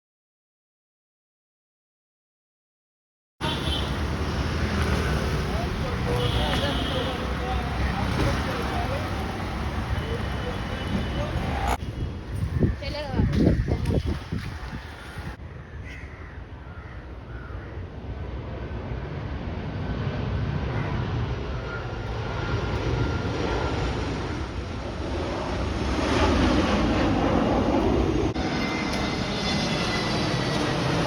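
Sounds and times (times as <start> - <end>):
airplane flying past: 3.4 - 15.6, 16.3 - 31.0.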